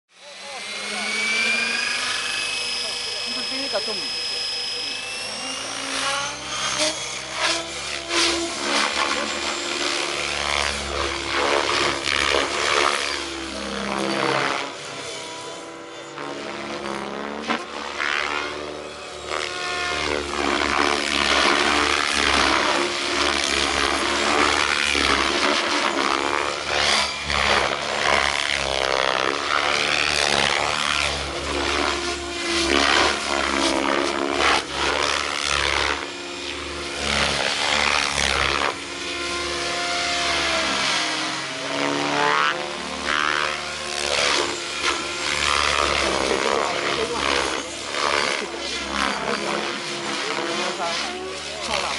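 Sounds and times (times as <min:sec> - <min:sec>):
rc helicopter rotor whine: 0:00.1 - 0:51.9.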